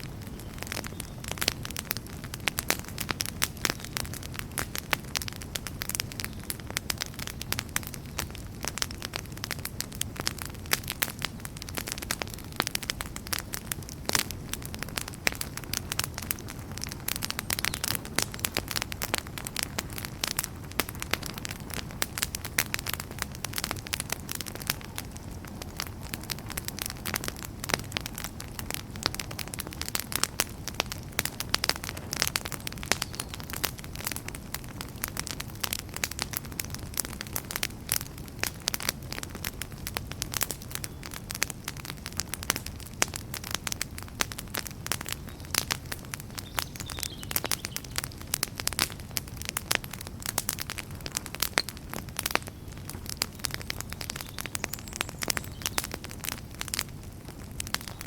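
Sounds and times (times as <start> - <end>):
campfire crackling and popping: 0.0 - 58.0
fire burning rumble: 0.0 - 58.0.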